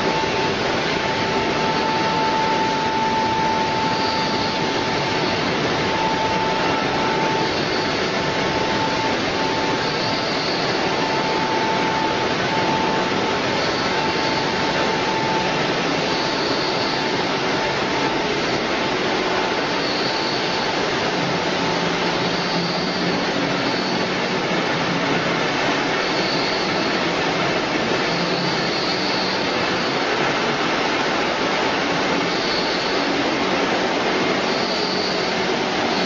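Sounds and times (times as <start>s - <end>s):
production line machine noise: 0.0s - 36.0s.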